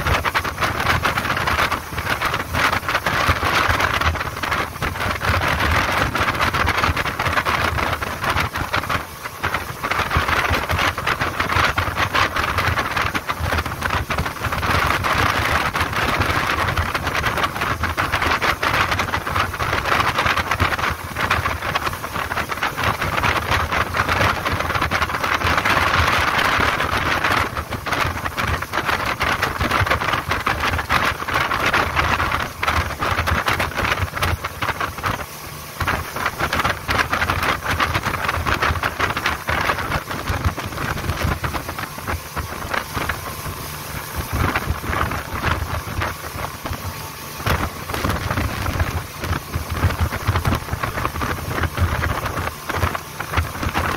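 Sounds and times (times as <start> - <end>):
boat engine drone: 0.0 - 53.9
rush of water and wind: 0.0 - 53.9.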